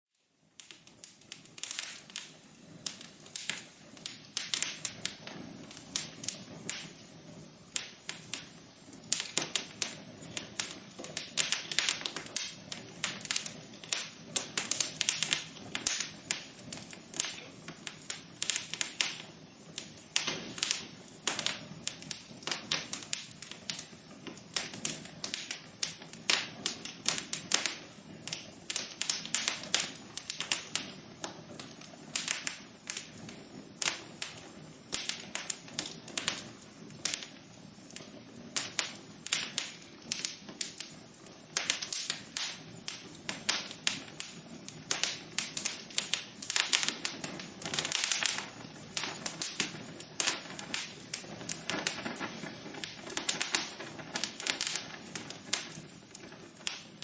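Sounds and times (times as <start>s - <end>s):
wood fire crackling: 0.2s - 57.0s.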